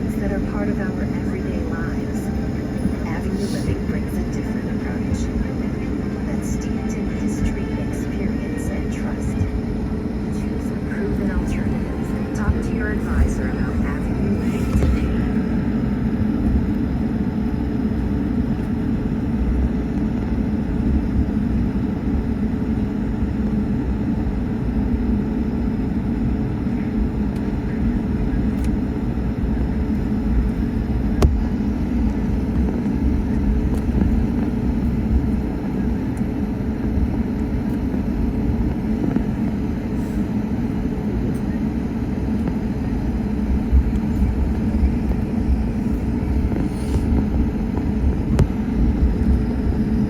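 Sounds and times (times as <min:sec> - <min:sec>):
faint steady hum: 0:00.0 - 0:50.0
jet engines low rumble: 0:00.0 - 0:50.0.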